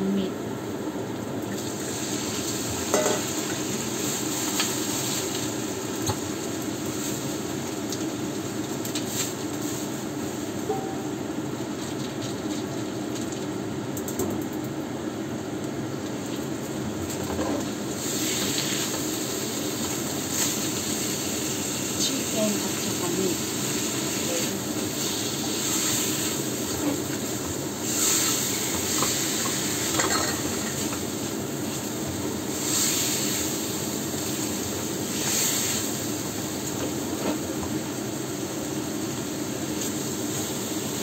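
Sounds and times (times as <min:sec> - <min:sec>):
meat sizzling in a wok: 0:01.3 - 0:13.8, 0:15.1 - 0:41.0.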